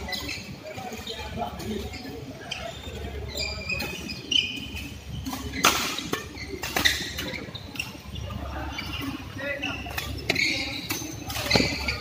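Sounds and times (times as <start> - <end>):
shoes squeaking on court: 0.0 - 12.0.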